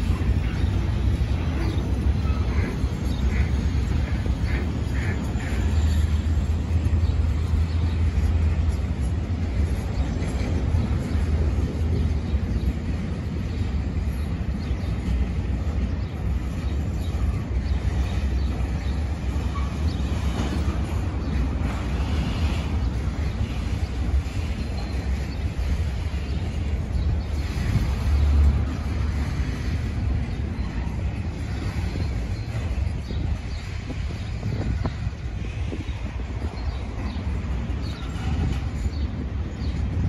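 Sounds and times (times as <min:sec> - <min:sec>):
train running past: 0:00.0 - 0:40.0.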